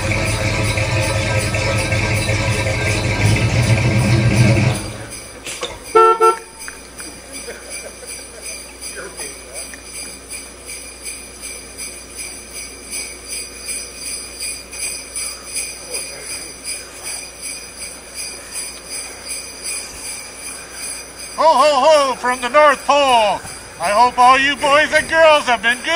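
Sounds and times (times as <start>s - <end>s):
sleigh bells jingling: 0.0s - 25.9s.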